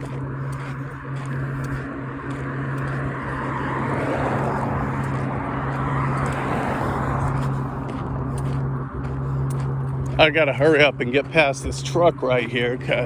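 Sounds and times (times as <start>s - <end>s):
car passing: 0.0s - 13.0s
steady low hum: 0.0s - 13.0s.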